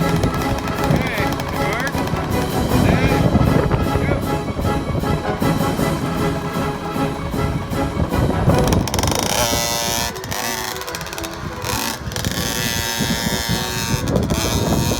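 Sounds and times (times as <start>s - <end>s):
background music: 0.0s - 14.9s
motorbike engine revving: 0.0s - 14.9s.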